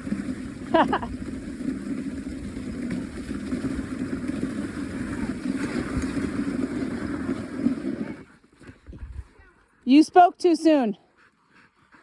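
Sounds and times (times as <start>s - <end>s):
sled runners scraping on snow: 0.0s - 12.0s.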